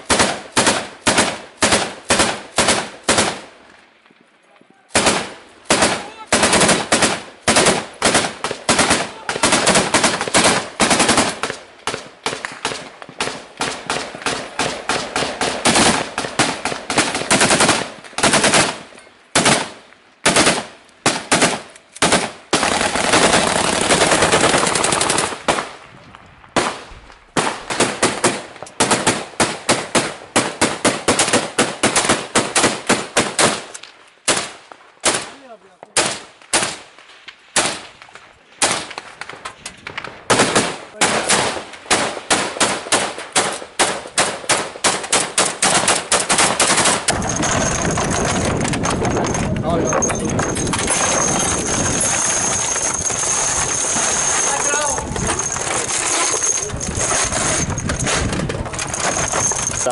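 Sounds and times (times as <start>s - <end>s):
assault rifles firing: 0.0s - 3.5s, 4.9s - 25.8s, 26.6s - 36.9s, 37.5s - 59.9s.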